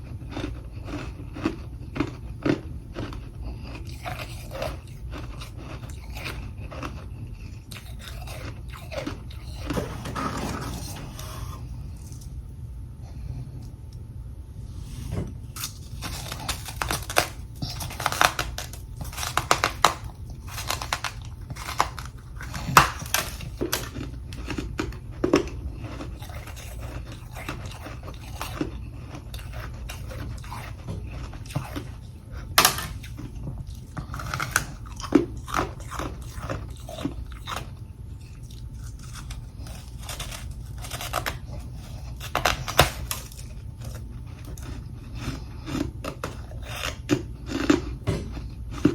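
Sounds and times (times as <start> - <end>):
person crunching frost: 0.0 - 12.4, 14.8 - 48.9
steady low hum: 0.0 - 48.9.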